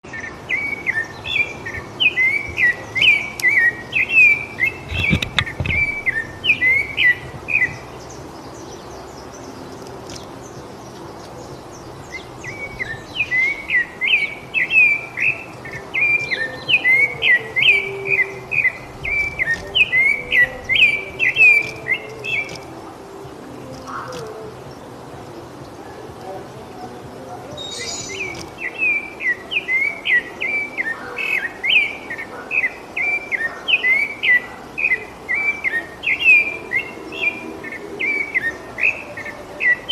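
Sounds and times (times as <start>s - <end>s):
thrush singing whistled notes: 0.0s - 39.9s.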